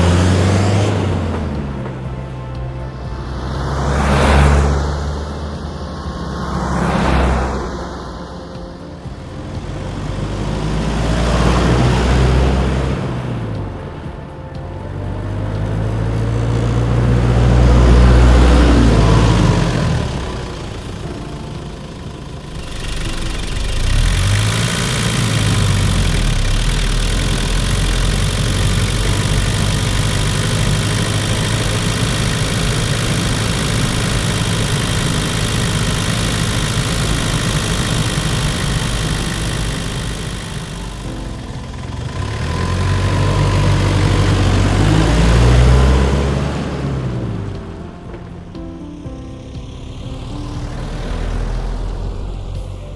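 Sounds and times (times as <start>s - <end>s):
strong hiss: 0.0s - 46.8s
diesel engine running: 0.0s - 52.9s.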